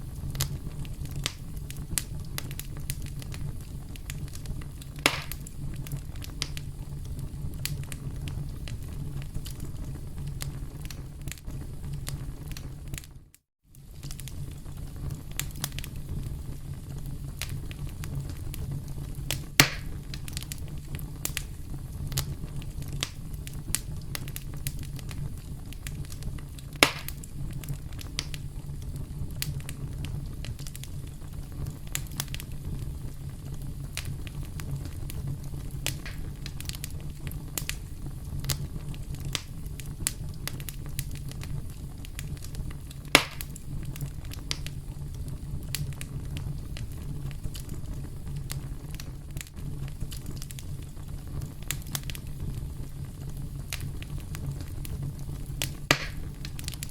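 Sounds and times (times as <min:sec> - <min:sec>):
campfire crackling: 0:00.0 - 0:56.9
sharp cracks of fire: 0:00.0 - 0:56.9.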